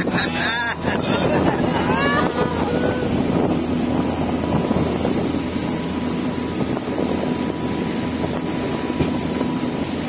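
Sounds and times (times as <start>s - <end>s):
boat engine running: 0.0s - 10.0s
water rushing along hull: 0.0s - 10.0s
wind on microphone: 0.0s - 10.0s.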